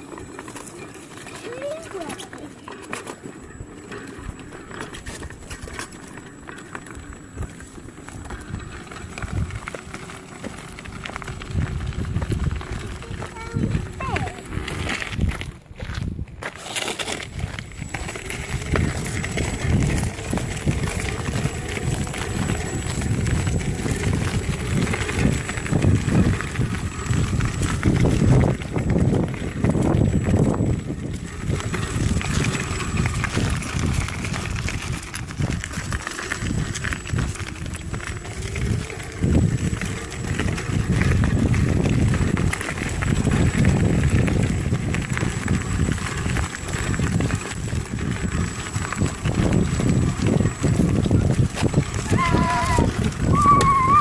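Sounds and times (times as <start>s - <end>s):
board wheels rumbling on rough track: 0.0s - 54.0s
wheels knocking and clicking: 0.0s - 54.0s
wind buffeting microphone: 6.8s - 54.0s.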